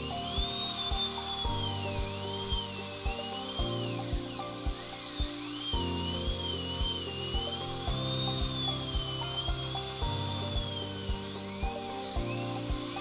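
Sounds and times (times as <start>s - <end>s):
background music with steady beat: 0.0s - 13.0s
dental drill whining: 0.0s - 13.0s.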